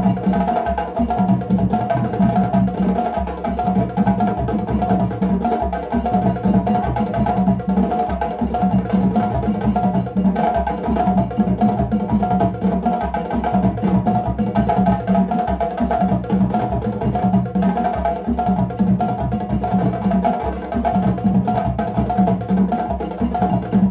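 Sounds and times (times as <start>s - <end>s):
djembe drums playing fast rhythm: 0.0s - 23.9s.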